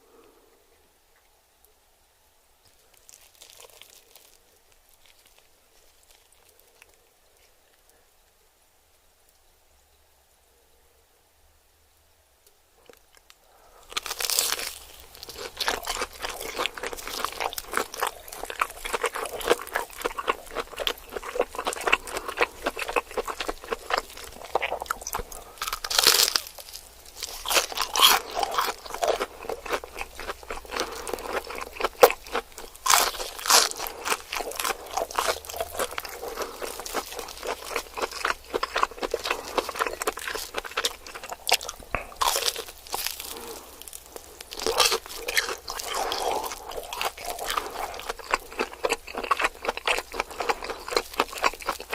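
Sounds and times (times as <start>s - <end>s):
crunching and chewing food: 2.6s - 8.0s, 12.8s - 51.9s.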